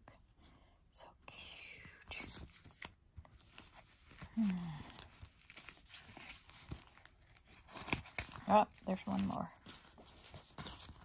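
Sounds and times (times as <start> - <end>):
paper rustling and crinkling: 2.1 - 11.0.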